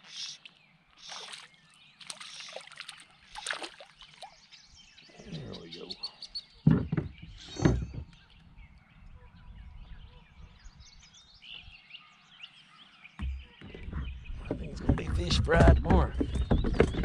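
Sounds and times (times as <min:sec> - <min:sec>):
birds chirping and singing: 0:00.0 - 0:17.0.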